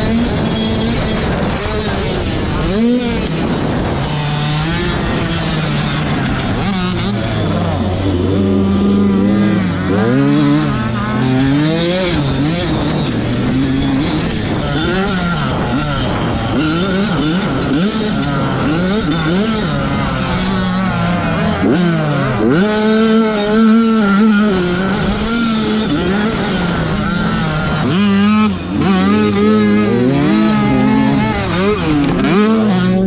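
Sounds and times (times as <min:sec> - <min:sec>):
motocross bikes revving: 0:00.0 - 0:33.0.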